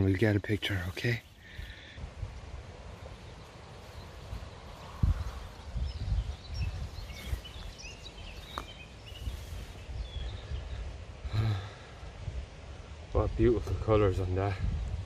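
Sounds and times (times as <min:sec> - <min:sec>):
birds chirping faintly: 0:00.0 - 0:14.6
wind buffeting microphone: 0:01.5 - 0:15.0.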